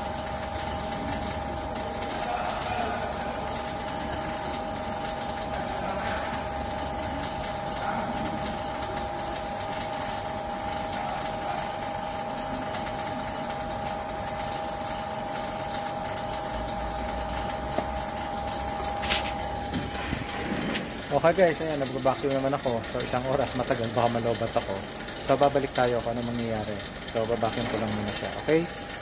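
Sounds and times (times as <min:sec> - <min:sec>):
vacuum pump humming: 0:00.0 - 0:29.0.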